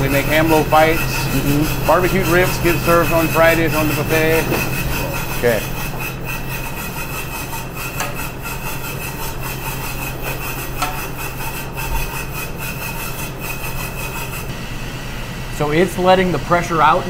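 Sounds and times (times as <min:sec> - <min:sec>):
pressure cooker venting steam: 0:00.0 - 0:17.0
steady hum: 0:00.0 - 0:17.0.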